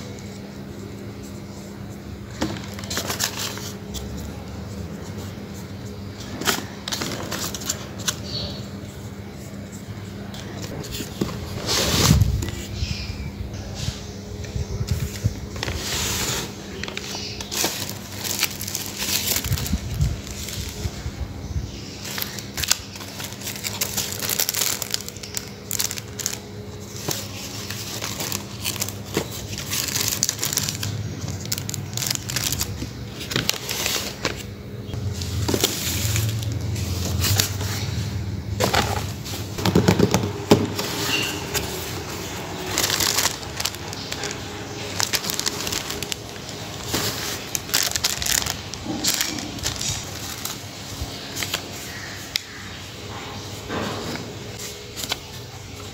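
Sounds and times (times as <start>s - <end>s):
paper and cellophane crinkling: 0.0s - 13.0s, 13.8s - 55.9s.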